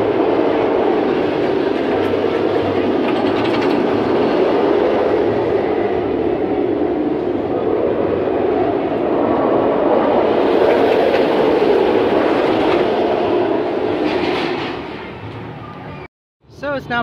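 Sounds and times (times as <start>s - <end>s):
roller coaster train rumbling: 0.0s - 17.0s.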